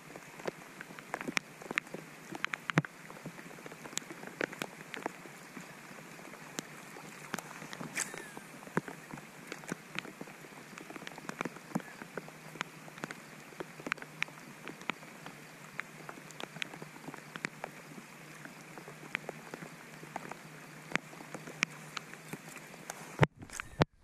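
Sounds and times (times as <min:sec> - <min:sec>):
rain falling on water: 0:00.0 - 0:24.0.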